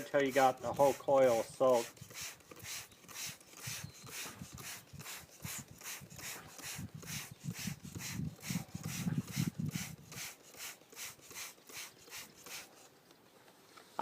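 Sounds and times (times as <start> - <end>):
spray bottle squirting: 0.3 - 12.9.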